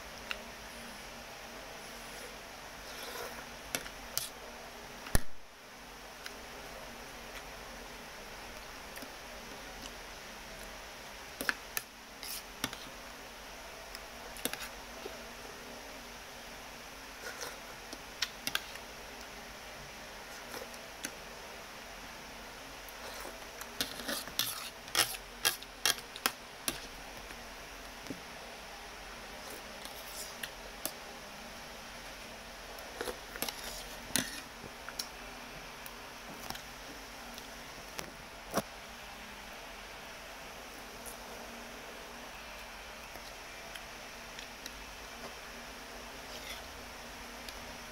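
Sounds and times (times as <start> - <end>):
room hiss: 0.0 - 47.9.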